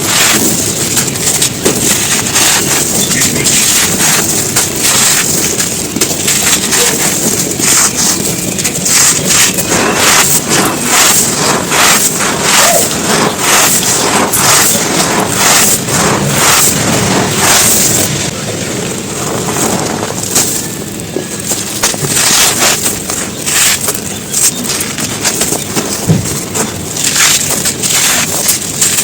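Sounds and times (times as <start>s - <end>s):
earth crunching and crumbling: 0.0s - 29.0s.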